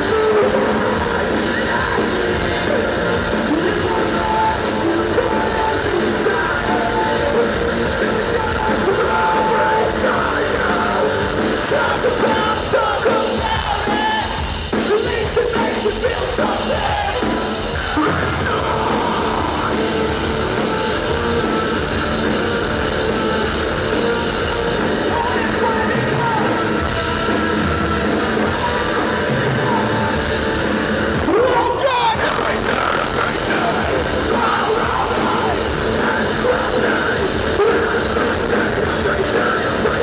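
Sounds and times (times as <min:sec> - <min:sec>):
electric guitar: 0:00.0 - 0:40.0
keyboards: 0:00.0 - 0:40.0
metal band playing live: 0:00.0 - 0:40.0
vocals: 0:00.0 - 0:40.0.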